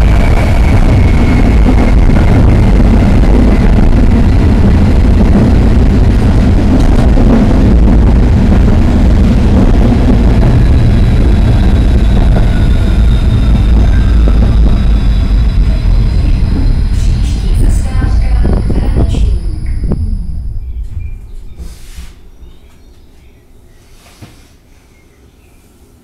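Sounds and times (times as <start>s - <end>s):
faint high whine: 0.0s - 23.9s
tram wheels rumbling on rails: 0.0s - 26.0s.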